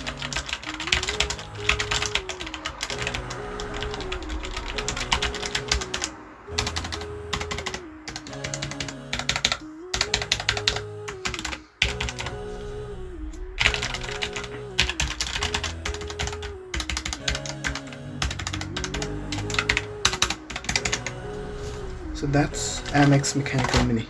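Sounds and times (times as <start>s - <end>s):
fast keyboard typing: 0.0s - 12.3s, 13.6s - 21.2s
background music: 0.0s - 24.0s.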